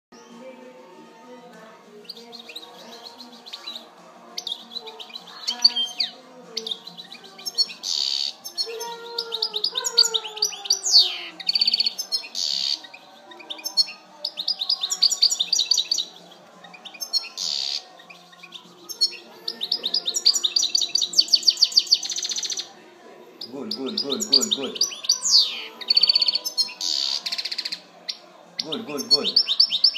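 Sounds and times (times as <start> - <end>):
goldfinch twittering song: 2.0 - 22.7, 23.4 - 29.9.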